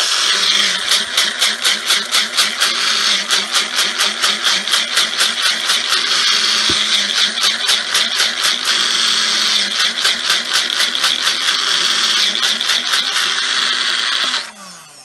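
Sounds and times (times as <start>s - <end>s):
electric grinder motor humming: 0.0s - 15.0s
berries rattling in grinder: 0.3s - 14.0s.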